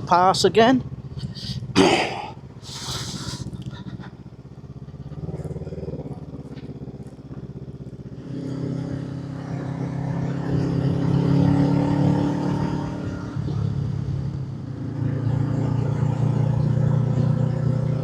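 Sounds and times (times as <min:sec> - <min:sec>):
motorcycle engine: 0:00.0 - 0:18.0.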